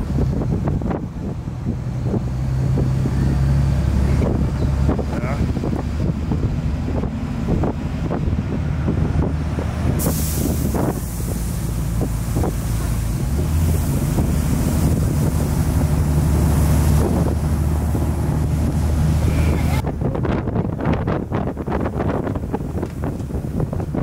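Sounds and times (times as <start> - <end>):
bus engine humming: 0.0 - 24.0
wind rushing on microphone: 0.0 - 24.0.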